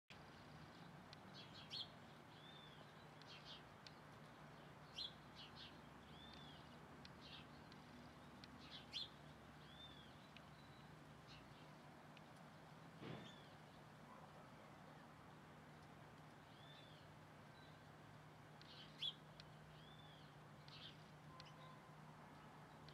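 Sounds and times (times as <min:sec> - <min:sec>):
sparrow chirping: 0:00.2 - 0:15.0, 0:15.7 - 0:22.9.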